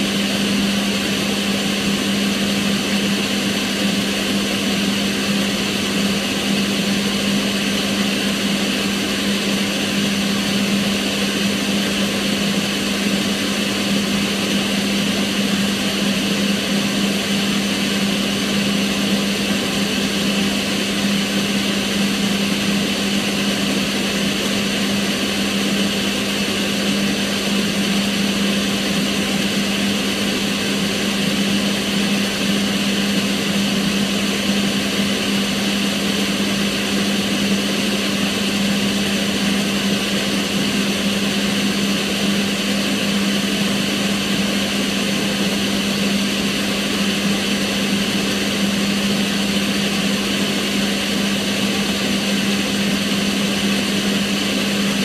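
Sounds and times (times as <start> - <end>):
extractor fan rushing air: 0.0 - 55.0.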